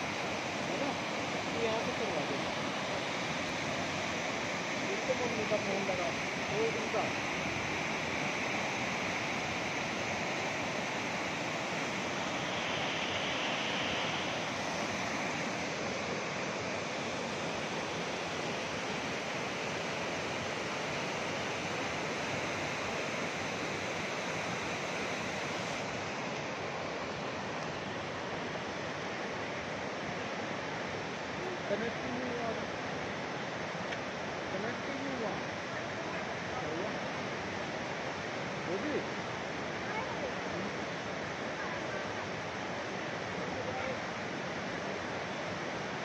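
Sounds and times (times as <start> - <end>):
mountain river rushing: 0.0 - 46.0.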